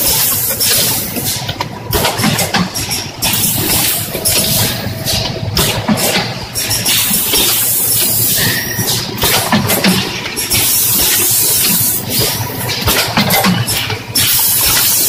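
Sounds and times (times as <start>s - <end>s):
packaging machine clatter: 0.0s - 15.0s
sharp machine clicks: 0.0s - 15.0s.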